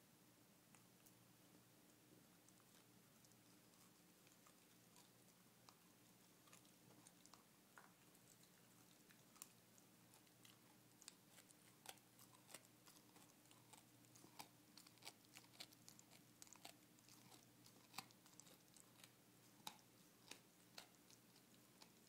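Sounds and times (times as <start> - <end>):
dog gnawing on a chew: 2.4 - 22.0.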